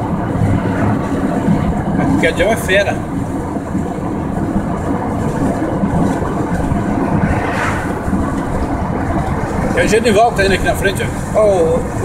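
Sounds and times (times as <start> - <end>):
engine hum: 0.0 - 12.0
tyres rolling on asphalt: 0.0 - 12.0.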